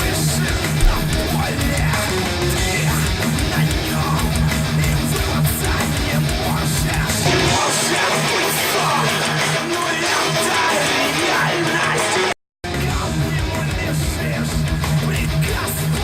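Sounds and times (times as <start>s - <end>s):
guitar music through loudspeakers: 0.0s - 16.0s.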